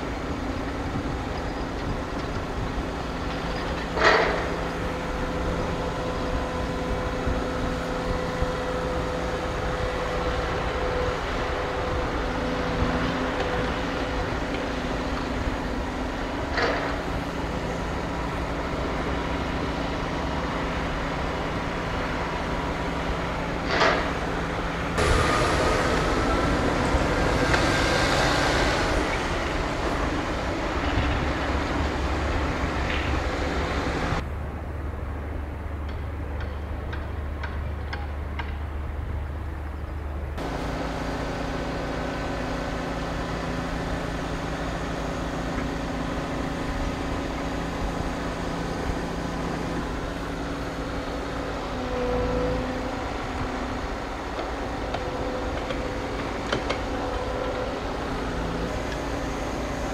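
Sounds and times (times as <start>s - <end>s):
construction machinery droning: 0.0s - 59.9s.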